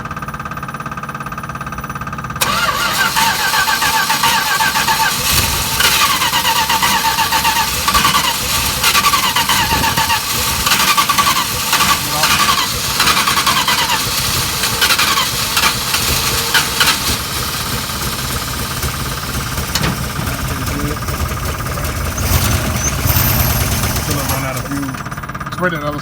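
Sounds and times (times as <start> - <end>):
engine cranking and starting: 2.3 - 26.0.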